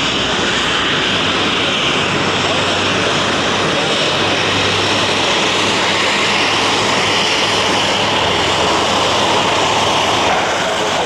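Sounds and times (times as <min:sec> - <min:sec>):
jet engines at taxi power: 0:00.0 - 0:11.0.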